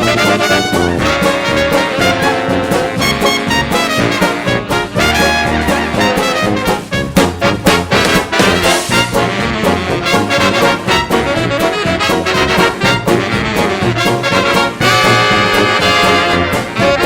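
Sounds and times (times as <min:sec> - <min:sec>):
dance band music: 0:00.0 - 0:17.0
trombone: 0:00.0 - 0:17.0
trumpet: 0:00.0 - 0:17.0.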